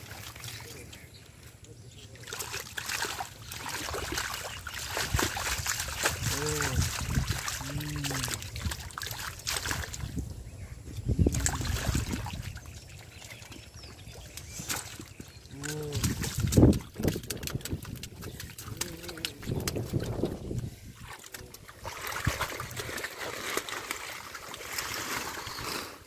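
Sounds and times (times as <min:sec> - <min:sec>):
hands sloshing in muddy water: 0:00.0 - 0:01.0, 0:02.2 - 0:10.2, 0:11.2 - 0:26.0
fish thrashing in water: 0:02.2 - 0:10.2, 0:11.3 - 0:25.7.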